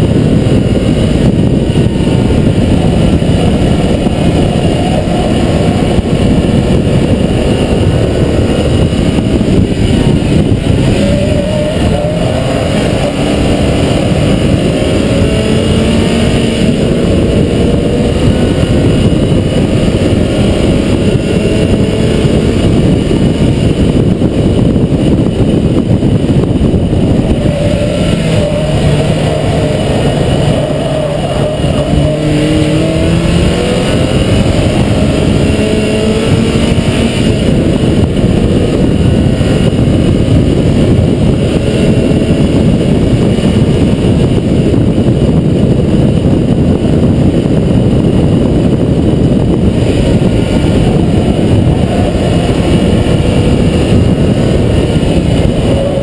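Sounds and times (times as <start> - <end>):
car engine revving through gears: 0.0 - 45.6, 48.6 - 56.0
wind and road noise: 0.0 - 56.0.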